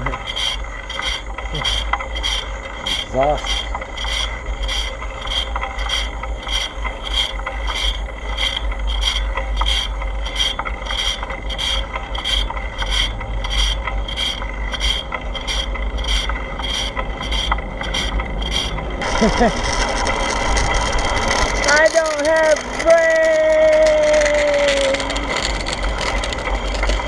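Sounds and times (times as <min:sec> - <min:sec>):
bicycle mechanical clicking: 0:00.0 - 0:27.0.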